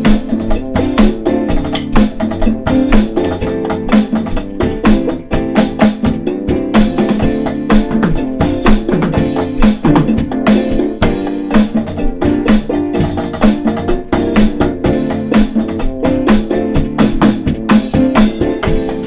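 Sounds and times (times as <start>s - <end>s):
electronic drum groove: 0.0s - 19.0s.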